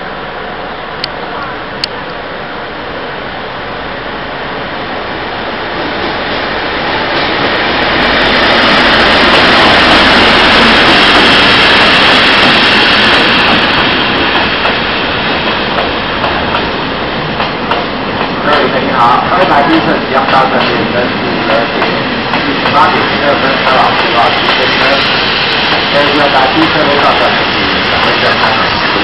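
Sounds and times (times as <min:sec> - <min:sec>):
freight train passing: 0:00.0 - 0:29.0.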